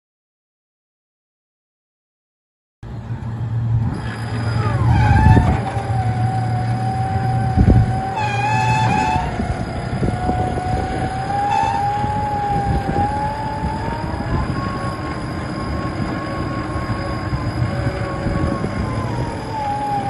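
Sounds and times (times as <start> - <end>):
engine at high revs whining: 2.9 - 20.0.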